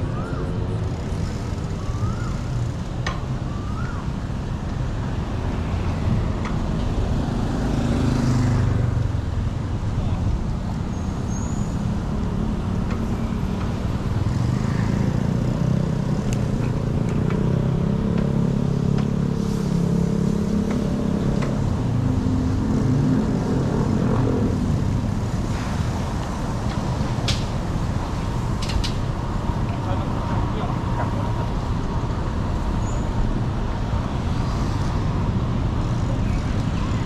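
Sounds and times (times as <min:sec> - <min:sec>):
vehicle engines humming: 0:00.0 - 0:37.0.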